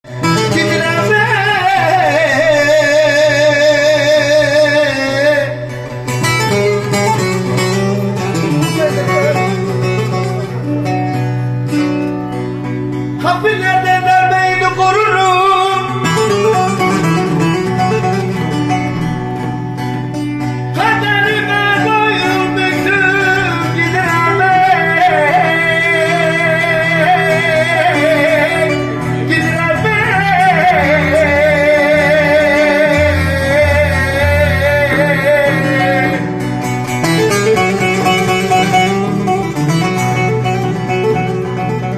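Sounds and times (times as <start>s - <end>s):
man singing folk song: 0.0s - 11.0s, 13.0s - 41.9s
plucked string accompaniment: 0.0s - 41.9s.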